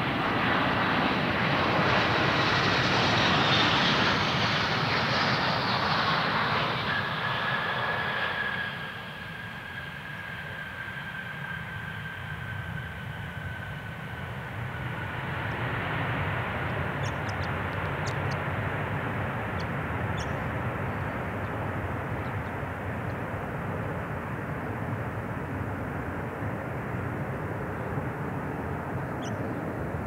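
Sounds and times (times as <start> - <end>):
jet engine reverse thrust roar: 0.0 - 30.0
jet engine whine: 0.0 - 30.0.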